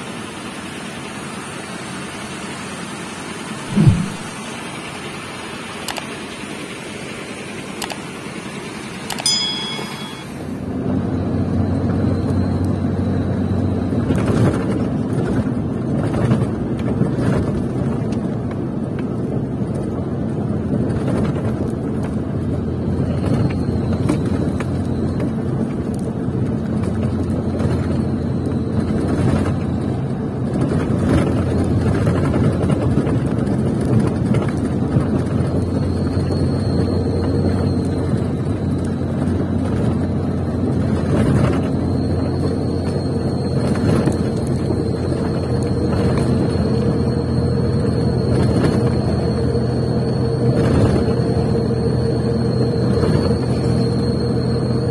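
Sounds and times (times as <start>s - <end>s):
tyre and road noise: 0.0s - 4.8s, 5.8s - 54.9s
truck engine drone: 0.0s - 54.9s.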